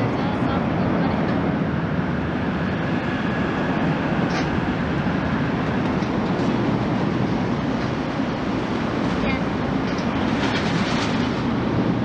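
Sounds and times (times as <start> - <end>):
jet engines low rumble: 0.0 - 12.0.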